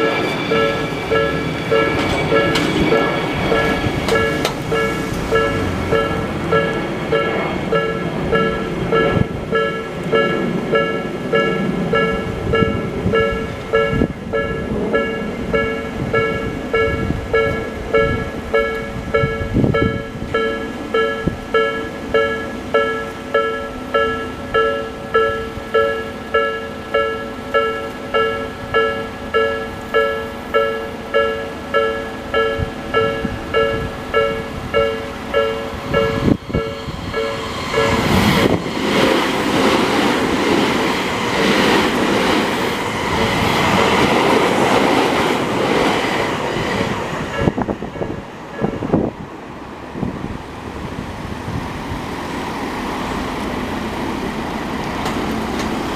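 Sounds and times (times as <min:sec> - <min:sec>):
passing train rumbling: 0:00.0 - 0:55.9.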